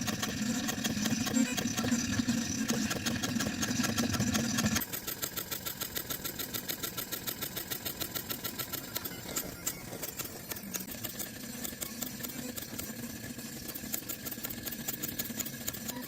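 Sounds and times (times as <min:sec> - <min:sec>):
stepper motors buzzing and pulsing: 0:00.0 - 0:16.0.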